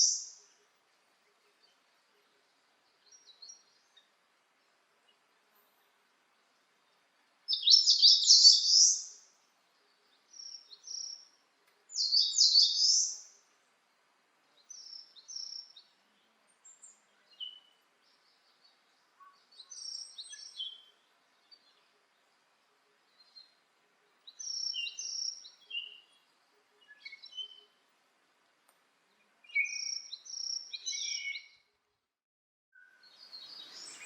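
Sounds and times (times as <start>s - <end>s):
faint bird chirps and calls: 0.0s - 28.2s, 29.0s - 31.8s, 32.7s - 34.0s
songbirds singing: 0.0s - 28.2s, 28.8s - 31.8s, 32.7s - 34.0s.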